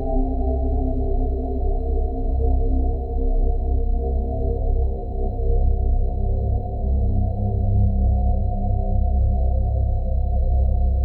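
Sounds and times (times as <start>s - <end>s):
dark low ambient drone: 0.0s - 11.0s.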